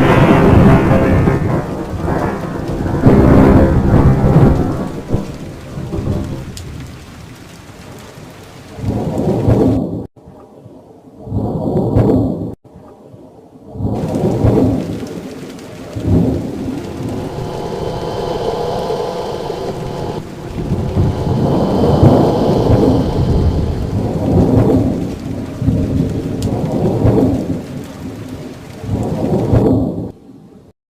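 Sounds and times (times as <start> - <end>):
steady rain: 0.0 - 10.1, 13.7 - 30.5
thunder rumbling: 0.0 - 10.1, 13.7 - 30.2.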